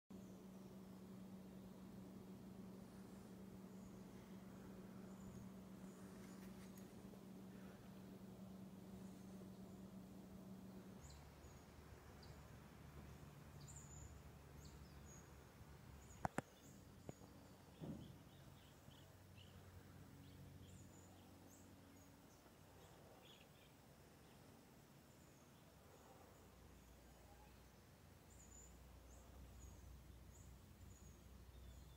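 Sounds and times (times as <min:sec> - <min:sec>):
low hum: 0:00.1 - 0:31.9.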